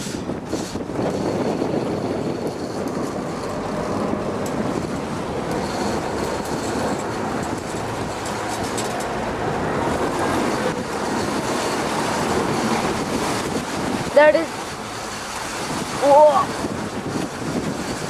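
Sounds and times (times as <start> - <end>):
boat engine rumble: 0.0 - 18.0
water rushing along hull: 0.0 - 18.0.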